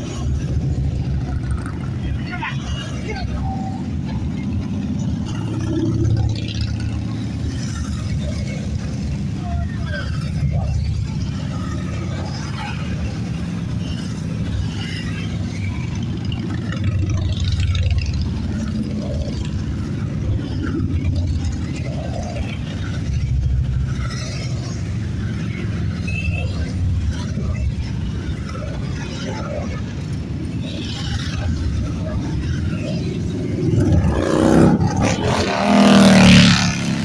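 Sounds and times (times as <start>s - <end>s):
motorcycle engines rumbling past: 0.0s - 37.0s.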